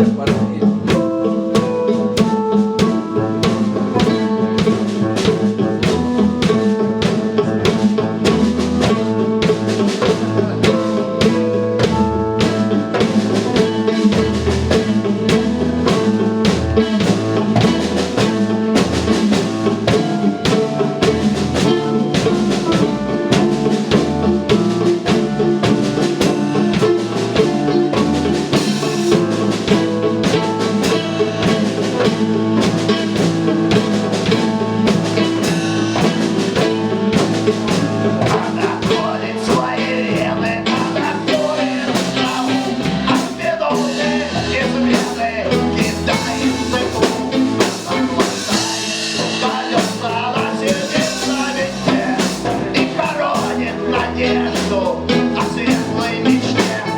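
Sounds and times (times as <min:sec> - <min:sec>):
drum kit beat: 0:00.0 - 0:56.9
live rock band playing: 0:00.0 - 0:56.9.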